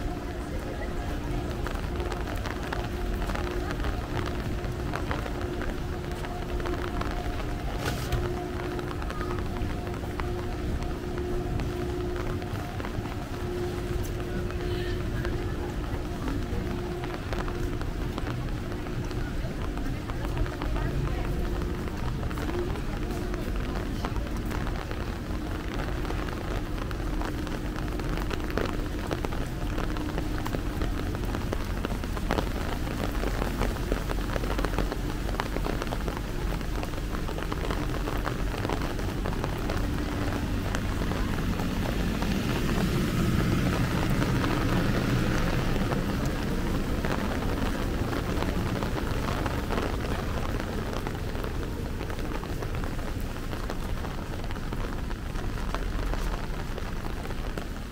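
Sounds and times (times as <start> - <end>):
low rumble: 0.0 - 57.9
steady rain: 0.0 - 57.9.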